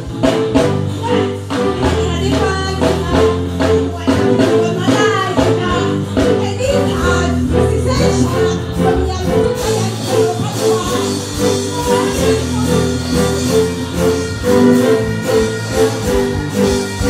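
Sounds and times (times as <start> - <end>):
live band playing: 0.0 - 17.0
woman singing: 1.0 - 17.0.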